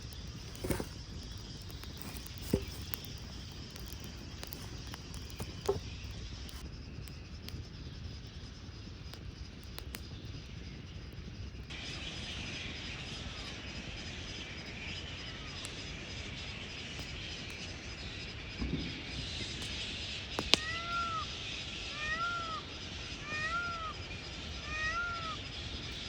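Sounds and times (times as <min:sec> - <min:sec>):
night insect chorus buzz: 0:00.0 - 0:26.0
pulsing insect trill: 0:00.0 - 0:26.0.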